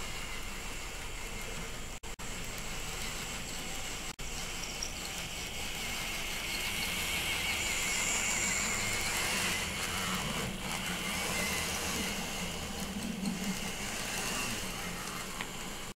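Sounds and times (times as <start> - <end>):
model train motors whirring: 0.0 - 15.9.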